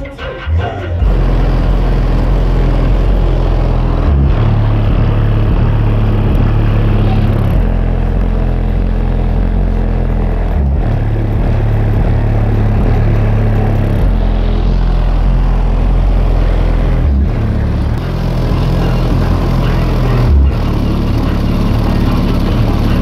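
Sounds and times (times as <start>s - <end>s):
deep bass from subwoofers: 0.0s - 23.0s.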